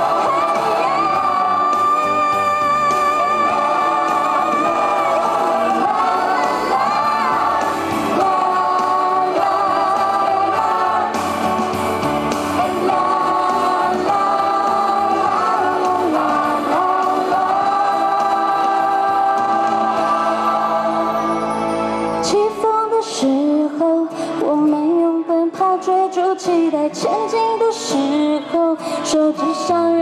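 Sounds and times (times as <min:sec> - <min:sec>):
pop song over sound system: 0:00.0 - 0:30.0.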